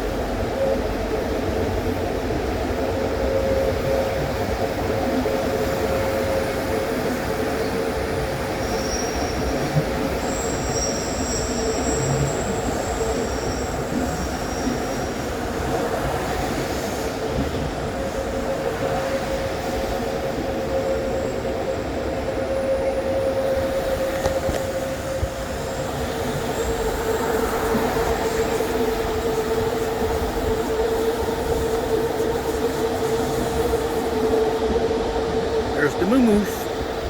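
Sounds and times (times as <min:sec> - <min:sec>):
train wheels squealing on rails: 0:00.0 - 0:35.8
train running rumble: 0:00.0 - 0:37.0.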